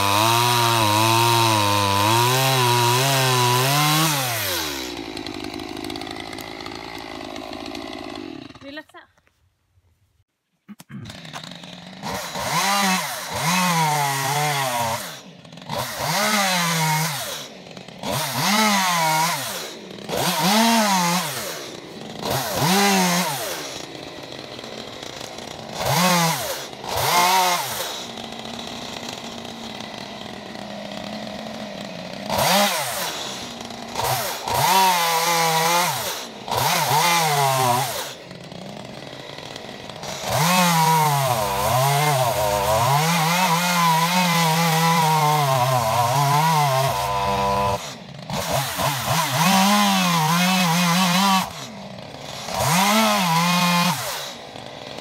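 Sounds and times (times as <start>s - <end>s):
chainsaw cutting wood: 0.0s - 9.1s, 10.8s - 55.0s.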